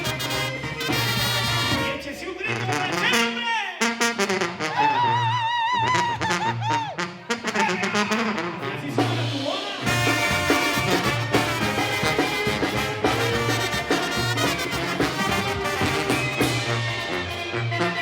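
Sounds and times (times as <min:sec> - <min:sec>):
brass band playing: 0:00.0 - 0:18.0
tuba bass notes: 0:00.0 - 0:18.0.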